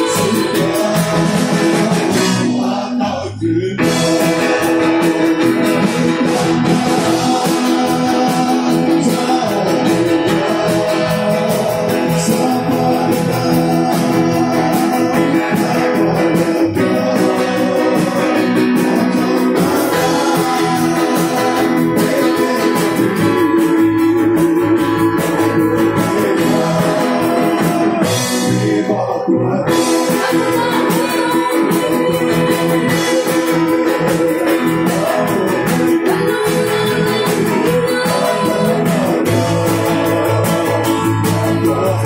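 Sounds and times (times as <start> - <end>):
guitar: 0.0 - 42.0
person singing: 0.0 - 42.0.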